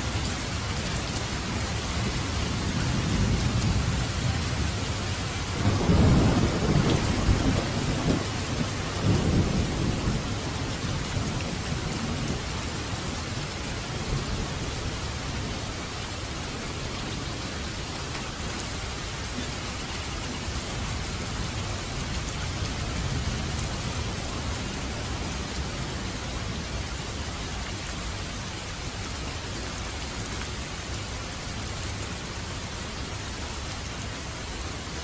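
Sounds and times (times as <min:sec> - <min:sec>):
rainfall hissing: 0:00.0 - 0:35.0.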